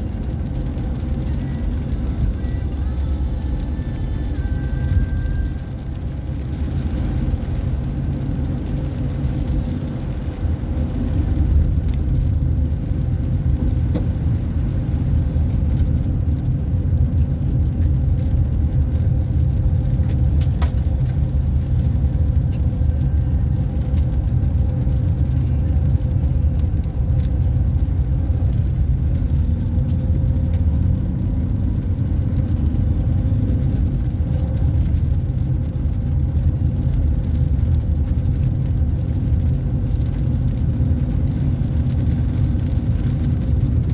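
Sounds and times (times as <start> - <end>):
car engine and tyres rumbling: 0.0 - 43.9.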